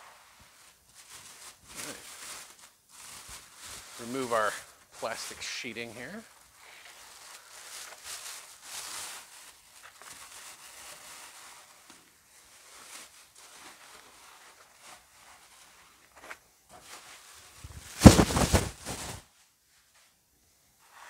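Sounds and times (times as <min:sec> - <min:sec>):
plastic sheeting rustling: 0:00.0 - 0:20.2
loud plastic crumple: 0:00.5 - 0:15.8, 0:16.8 - 0:19.3.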